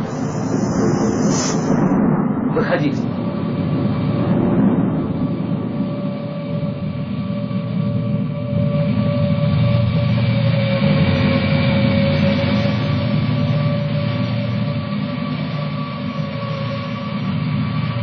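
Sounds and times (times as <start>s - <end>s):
flying car engine rumble and whine: 0.0s - 18.0s.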